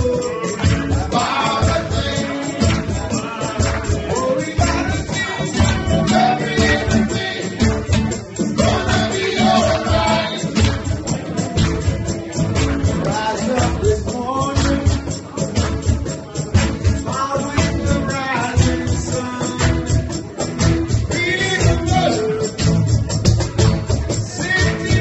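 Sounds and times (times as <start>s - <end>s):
person singing lead vocal: 0.0s - 11.1s, 12.8s - 15.5s, 16.9s - 22.7s, 24.1s - 25.0s
acoustic guitar: 0.0s - 25.0s
bass guitar: 0.0s - 25.0s
tambourine shaken in even beat: 0.0s - 25.0s.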